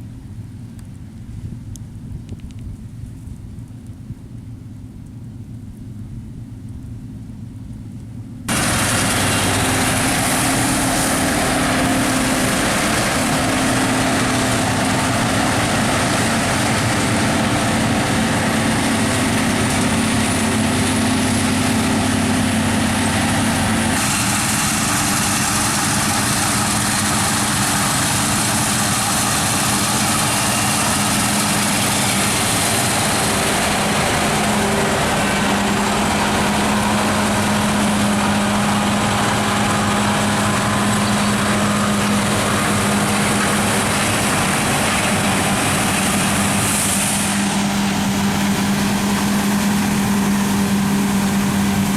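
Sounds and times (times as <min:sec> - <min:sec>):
combine harvester running: 0:00.0 - 0:51.9
dense rushing noise: 0:08.5 - 0:51.9.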